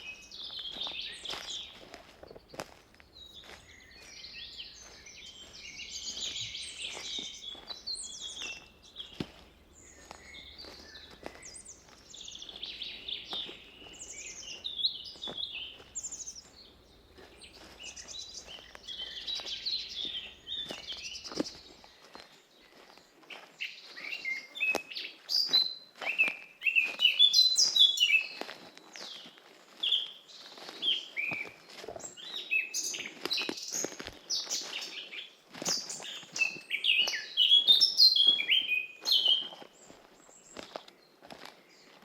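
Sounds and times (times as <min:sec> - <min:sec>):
footsteps on forest path: 0:00.0 - 0:42.0
songbirds trilling and chirping: 0:00.0 - 0:42.0.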